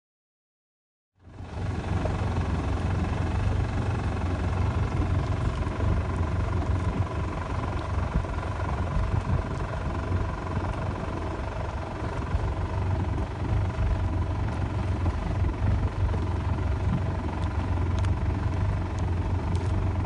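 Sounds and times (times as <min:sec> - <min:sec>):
boat engine droning: 0:01.2 - 0:20.0.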